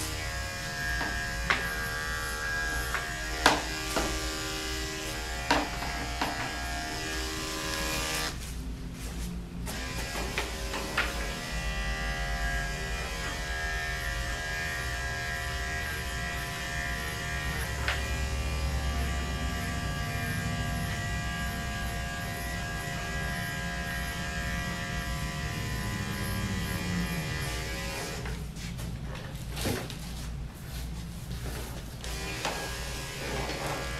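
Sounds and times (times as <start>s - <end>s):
electric clipper buzzing: 0.0s - 8.4s, 9.6s - 28.4s, 32.0s - 33.9s.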